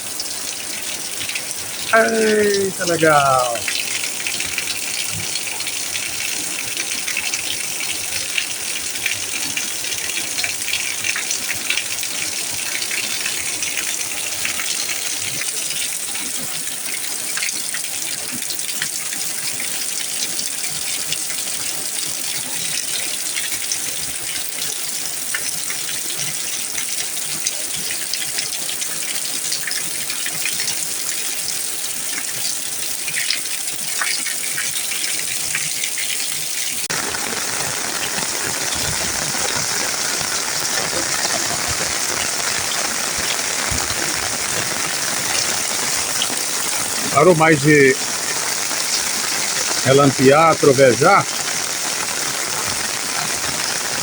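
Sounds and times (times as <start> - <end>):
heavy rain with gushing water: 0.0 - 54.0.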